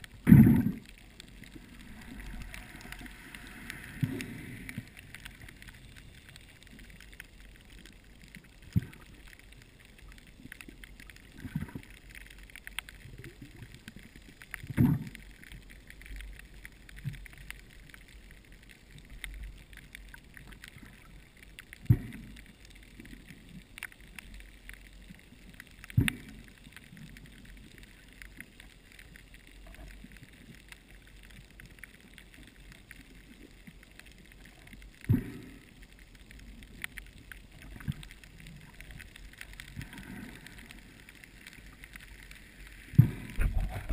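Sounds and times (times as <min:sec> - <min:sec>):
underwater water wash: 0:00.0 - 0:43.9.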